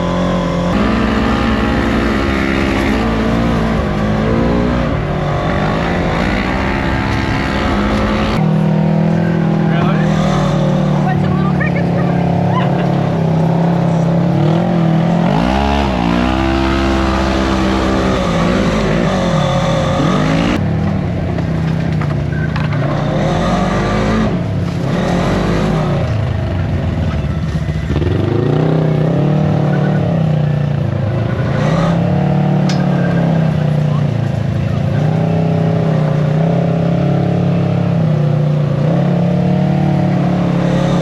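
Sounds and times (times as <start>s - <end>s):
engine revving up and down: 0.0s - 20.6s, 22.7s - 26.9s, 27.8s - 41.0s.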